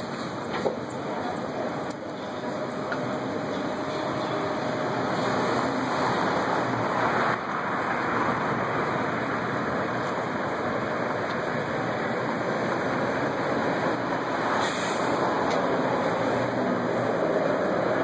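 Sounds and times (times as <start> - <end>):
passing car traffic: 0.0 - 18.0.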